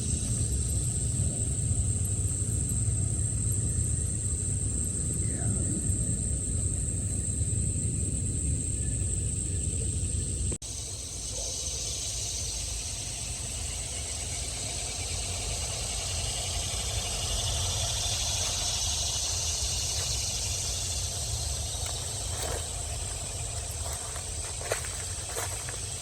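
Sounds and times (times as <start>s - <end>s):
constant high hiss: 0.0s - 26.0s.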